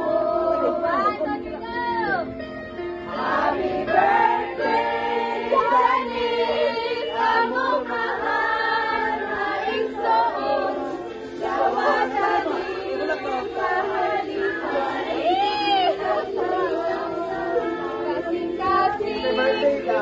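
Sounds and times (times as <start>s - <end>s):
group singing in chorus: 0.0s - 1.1s, 3.1s - 20.0s.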